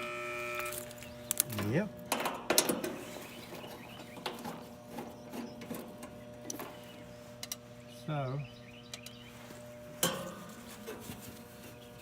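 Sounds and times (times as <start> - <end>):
compressor electrical hum and buzz: 0.0 - 12.0.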